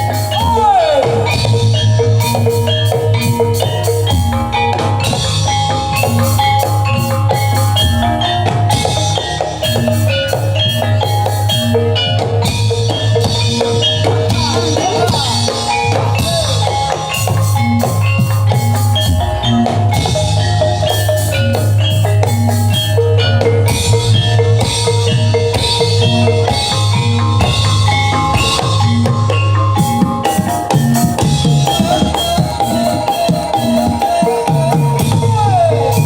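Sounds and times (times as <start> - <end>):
drums: 0.0 - 36.0
gliding melodic line: 0.0 - 36.0
mallet percussion: 0.0 - 36.0.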